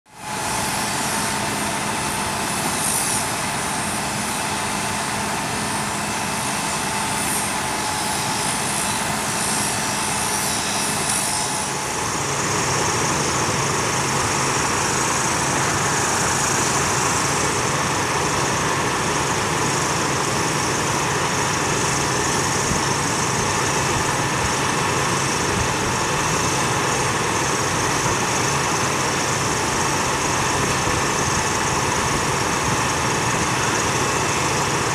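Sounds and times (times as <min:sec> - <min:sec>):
engine running steadily: 0:00.1 - 0:34.9
rail saw cutting steel: 0:00.1 - 0:34.9.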